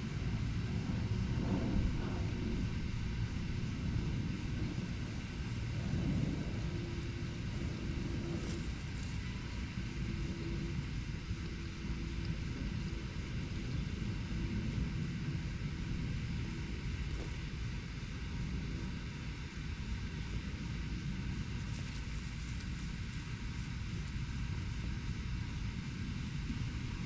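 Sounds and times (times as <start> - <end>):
distant city traffic rumble: 0.0 - 27.0.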